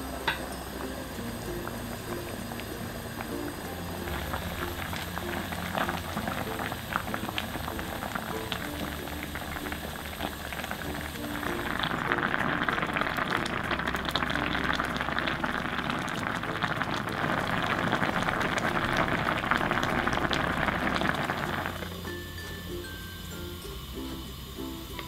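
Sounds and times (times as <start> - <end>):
stew boiling hard: 0.0 - 25.0.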